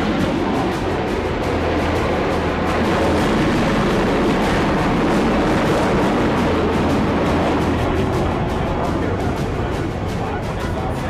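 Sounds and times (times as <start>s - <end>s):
background music: 0.0s - 11.0s
low drone: 0.0s - 11.0s
military jet aircraft roaring overhead: 0.0s - 11.0s.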